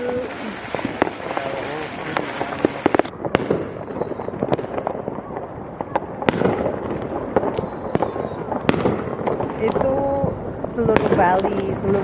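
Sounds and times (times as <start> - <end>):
distant fireworks crackling and booming: 0.0 - 12.0
fireworks bangs and pops: 0.0 - 12.0.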